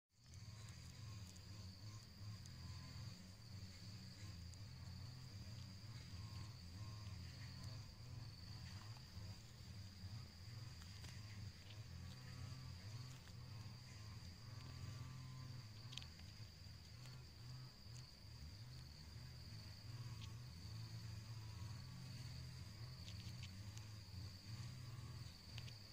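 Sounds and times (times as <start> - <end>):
insect trilling: 0.2 - 25.9
low uneven rumble: 0.2 - 25.9.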